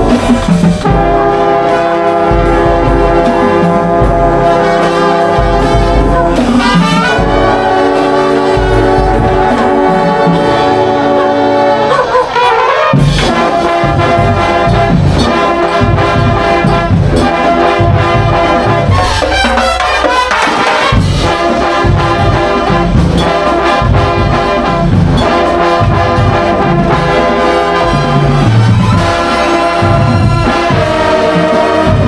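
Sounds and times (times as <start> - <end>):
bugles playing: 0.0 - 32.0
marching drums: 0.0 - 32.0.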